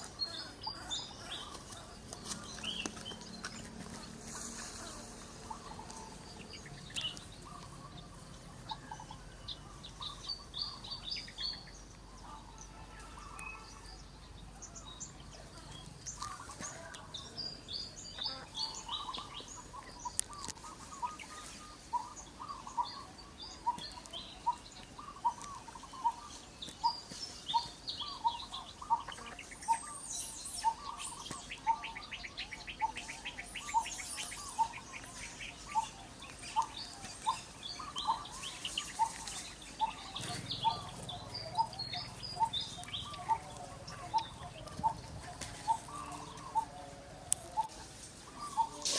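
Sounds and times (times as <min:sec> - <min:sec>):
birds chirping and calling: 0:00.0 - 0:48.9.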